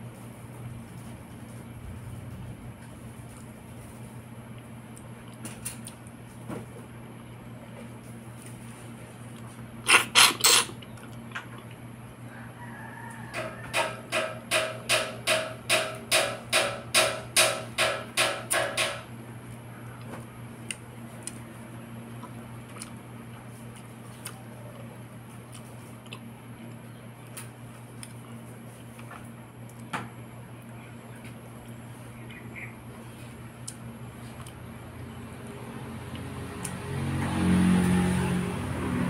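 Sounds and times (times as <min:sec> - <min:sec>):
steady low hum: 0:00.0 - 0:37.2.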